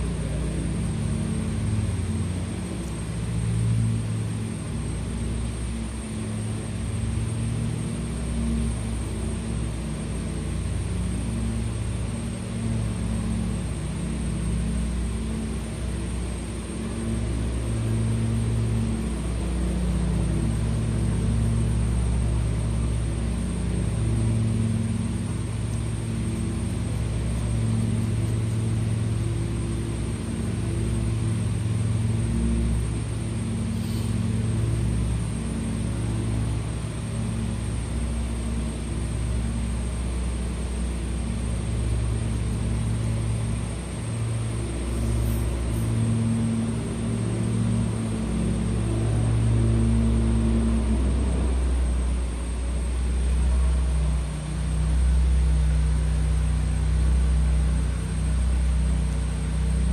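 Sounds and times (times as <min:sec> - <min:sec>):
low droning rumble: 0:00.0 - 0:59.9.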